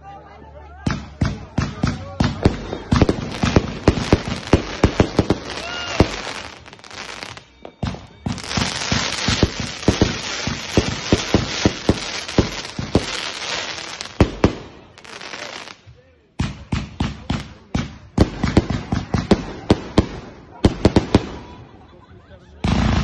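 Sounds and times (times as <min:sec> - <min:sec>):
fireworks bangs: 0:00.9 - 0:21.7, 0:22.6 - 0:23.0
fireworks crackling: 0:00.9 - 0:21.7, 0:22.6 - 0:23.0.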